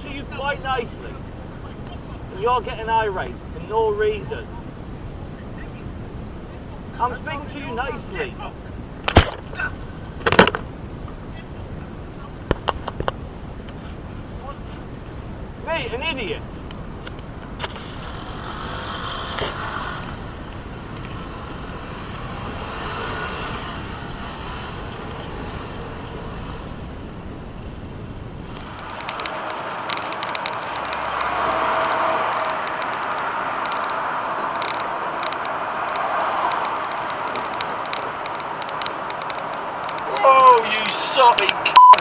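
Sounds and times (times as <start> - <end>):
car road and engine noise: 0.0 - 42.0.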